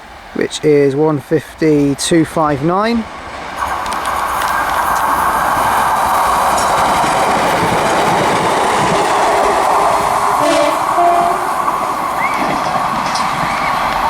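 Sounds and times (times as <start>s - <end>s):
train passing on rails: 0.0s - 14.0s.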